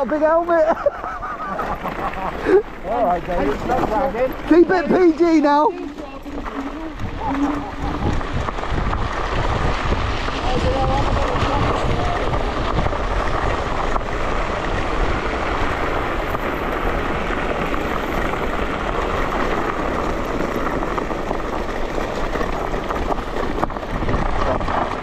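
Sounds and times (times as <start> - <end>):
scooter deep rumble: 0.0 - 25.0
wind rush over microphone: 2.4 - 25.0.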